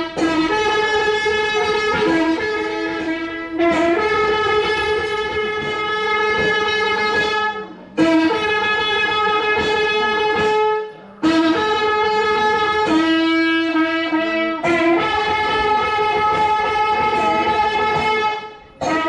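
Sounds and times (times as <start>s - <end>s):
wind instrument holding long notes: 0.0s - 19.0s.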